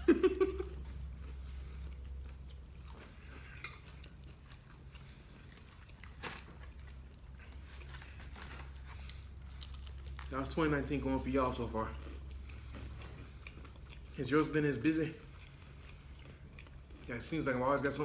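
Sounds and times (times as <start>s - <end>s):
steady low hum: 0.0s - 18.0s
mouth chewing fried chicken: 0.2s - 18.0s.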